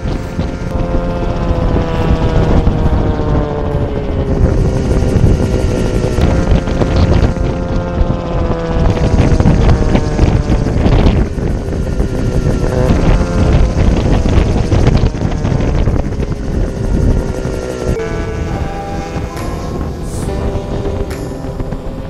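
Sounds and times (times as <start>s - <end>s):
helicopter engine and rotor drone: 0.0s - 22.0s.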